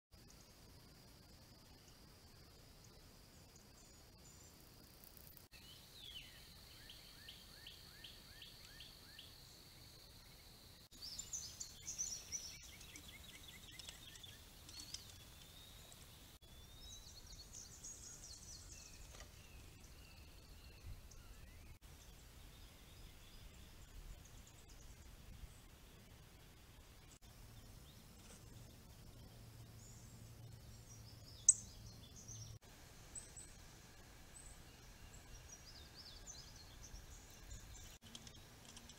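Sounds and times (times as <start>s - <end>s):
birds chirping and twittering: 0.2s - 38.9s.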